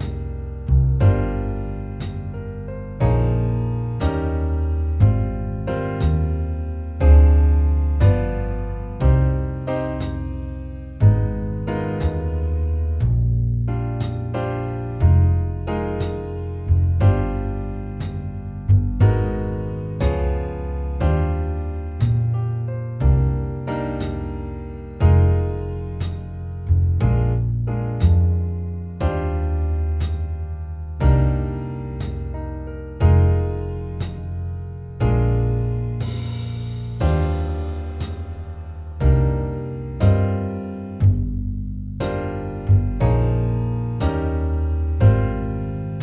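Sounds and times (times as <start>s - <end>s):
bass line: 0.0s - 46.0s
piano chords: 0.0s - 46.0s.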